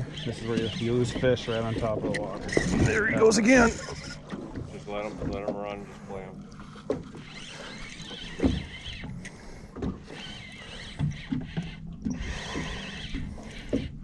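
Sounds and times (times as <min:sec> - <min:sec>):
fishing reel drag buzzing: 0:00.0 - 0:04.3, 0:06.5 - 0:14.0.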